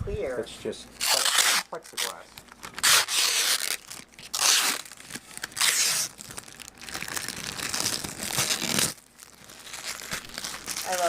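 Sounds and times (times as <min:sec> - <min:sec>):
plastic film peeling and tearing: 0:01.0 - 0:11.0.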